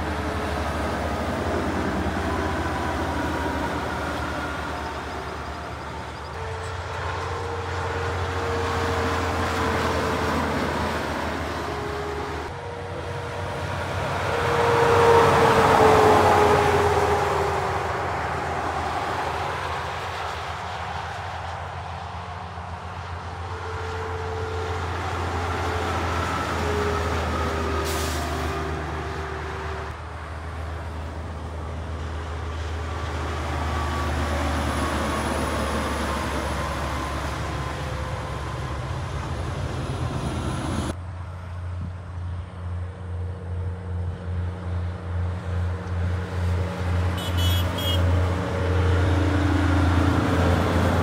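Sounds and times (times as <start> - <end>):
trucks passing on highway: 0.0 - 51.0
tyre and road noise: 0.0 - 51.0.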